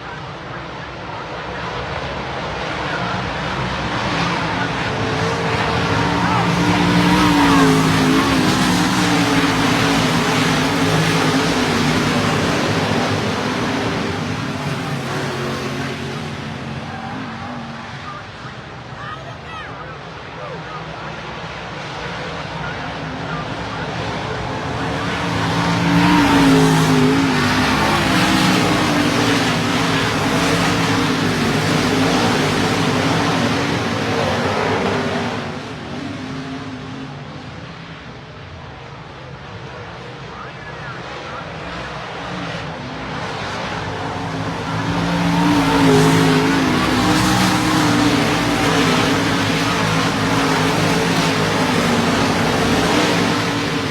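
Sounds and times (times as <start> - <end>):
race car engines passing: 0.0 - 53.9.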